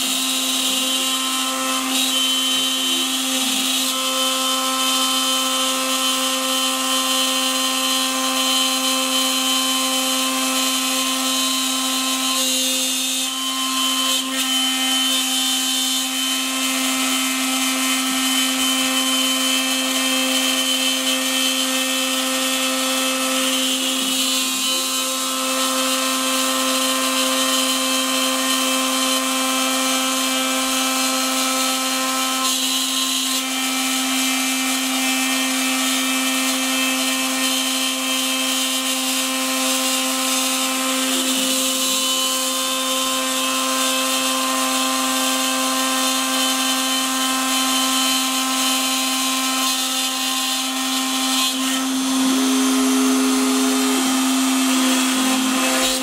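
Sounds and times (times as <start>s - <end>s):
cnc router spindle whine: 0.0s - 56.0s
end mill cutting wood: 0.0s - 56.0s.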